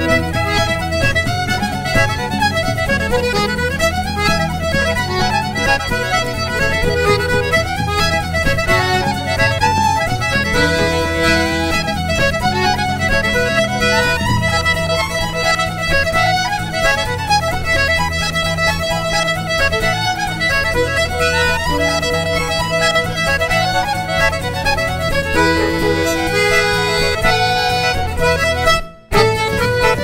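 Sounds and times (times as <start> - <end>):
accordion: 0.0 - 30.0
fiddle playing a tune: 0.0 - 30.0.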